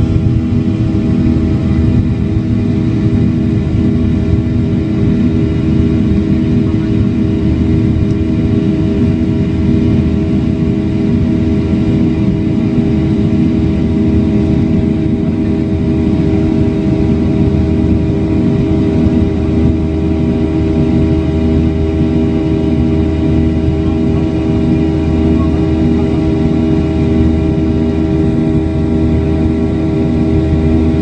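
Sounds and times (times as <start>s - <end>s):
airplane engines droning: 0.0s - 31.0s.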